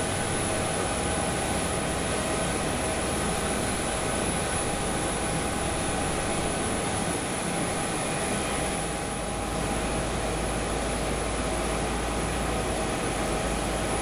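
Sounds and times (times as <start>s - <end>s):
constant high whine: 0.0s - 14.0s
jet engines running: 0.0s - 14.0s.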